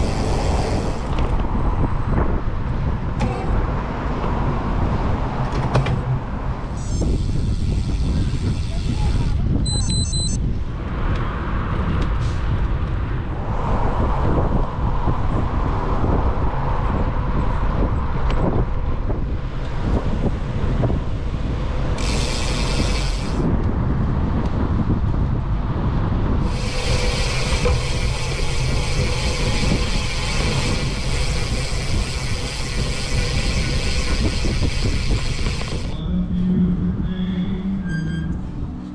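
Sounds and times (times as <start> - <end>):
wind buffeting microphone: 0.0 - 37.7.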